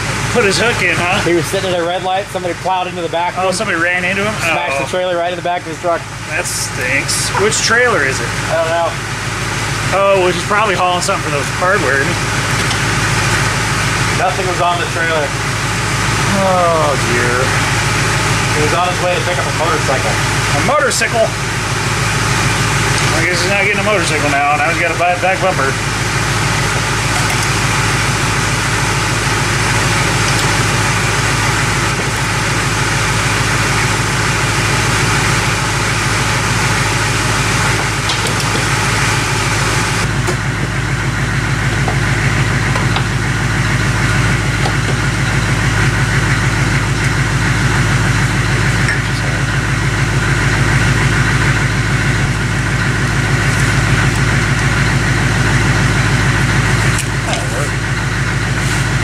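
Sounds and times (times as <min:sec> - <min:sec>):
machine droning: 0:00.0 - 0:59.0.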